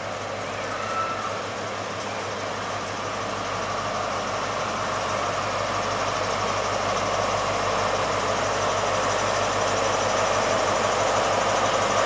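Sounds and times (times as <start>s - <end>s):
train diesel engine humming: 0.0s - 12.0s.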